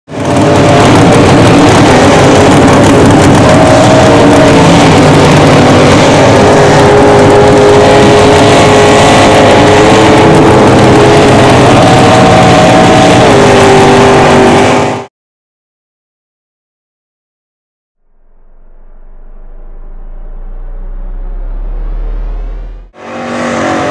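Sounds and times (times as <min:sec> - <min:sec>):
truck engine revving: 0:00.1 - 0:15.1, 0:18.0 - 0:23.9.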